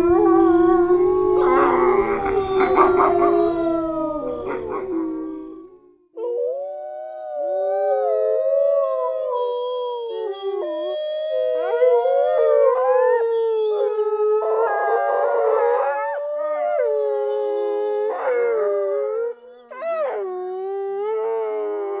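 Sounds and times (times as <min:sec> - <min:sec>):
dog howling: 0:00.0 - 0:22.0.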